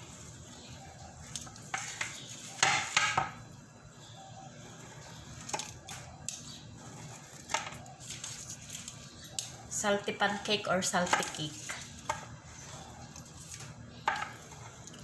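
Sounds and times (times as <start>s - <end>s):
pizza cutter cutting cake: 0.5s - 3.4s, 4.4s - 15.0s.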